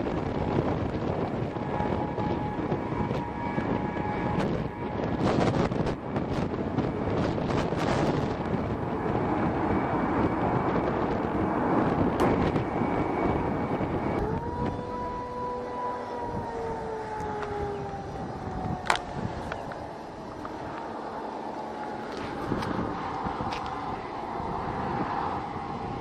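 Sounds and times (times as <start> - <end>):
aircraft rumble: 0.0 - 26.0
whining tone sinking in pitch: 0.0 - 26.0
wind buffeting microphone: 0.0 - 26.0.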